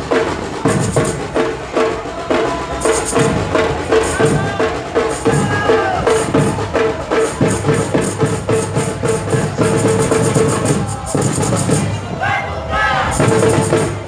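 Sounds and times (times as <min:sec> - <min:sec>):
samba percussion group: 0:00.0 - 0:14.0.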